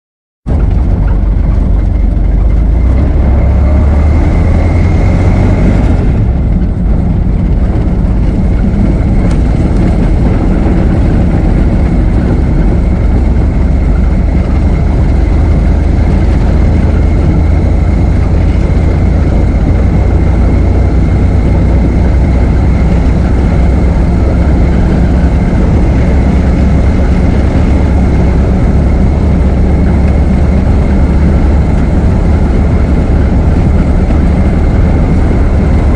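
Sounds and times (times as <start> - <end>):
car engine rumbling with whine: 0.4 - 35.9.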